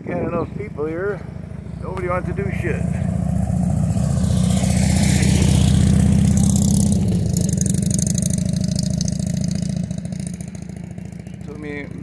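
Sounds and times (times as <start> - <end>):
motorcycle engine passing by: 0.1 - 12.0.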